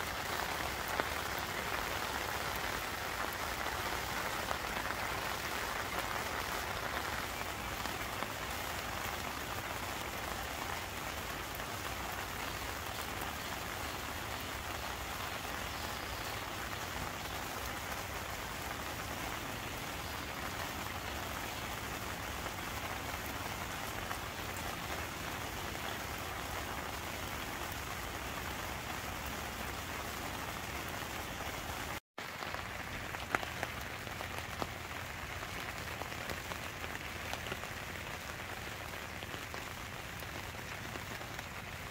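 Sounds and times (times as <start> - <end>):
rain on a tarp: 0.0 - 41.9.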